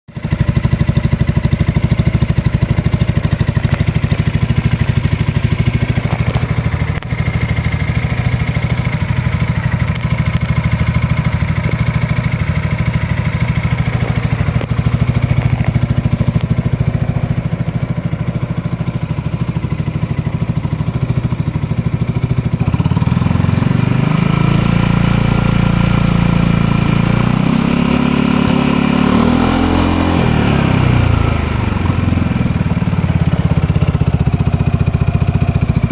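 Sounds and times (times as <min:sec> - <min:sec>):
motorcycle engine idling: 0:00.1 - 0:35.9
motorcycle engine revving: 0:00.1 - 0:35.9.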